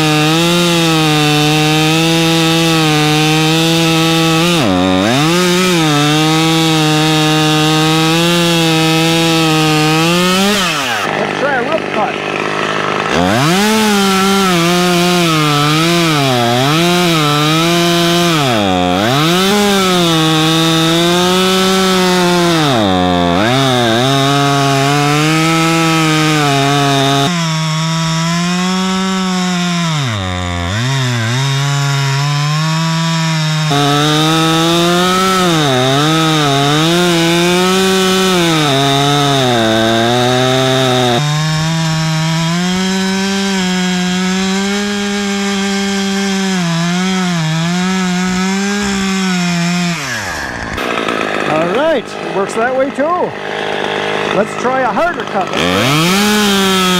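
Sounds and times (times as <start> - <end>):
chainsaw cutting a log: 0.0 - 56.9.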